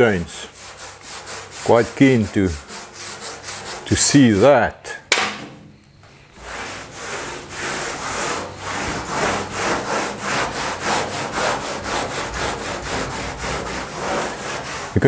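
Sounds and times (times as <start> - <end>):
cloth rubbing on sheet metal: 0.0 - 4.9, 6.2 - 15.0.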